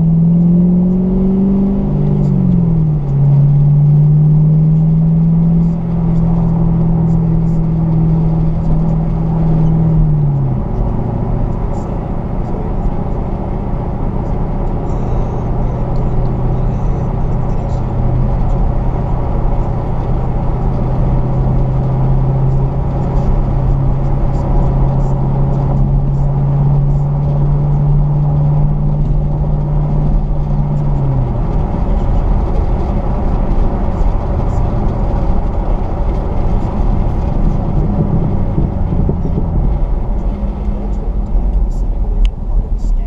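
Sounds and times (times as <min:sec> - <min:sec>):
car engine drone: 0:00.0 - 0:43.0
road noise: 0:00.0 - 0:43.0.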